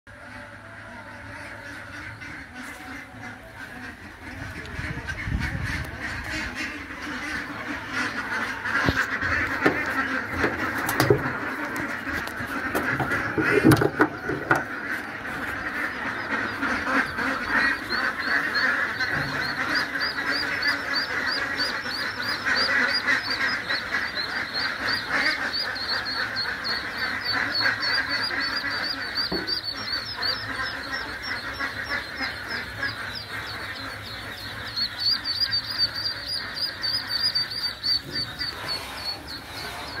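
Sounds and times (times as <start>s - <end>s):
ducklings peeping: 0.1s - 40.0s.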